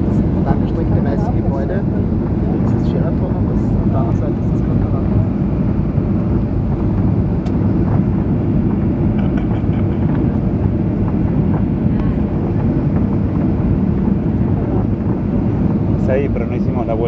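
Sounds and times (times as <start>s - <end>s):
airflow over airframe: 0.0s - 17.0s
jet engines droning: 0.0s - 17.0s.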